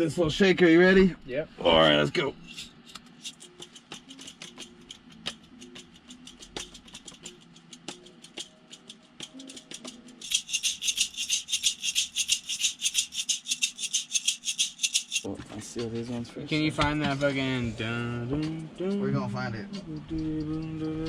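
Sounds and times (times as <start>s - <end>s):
faint beat music: 0.0s - 21.0s
hand shaker rhythm: 2.5s - 21.0s.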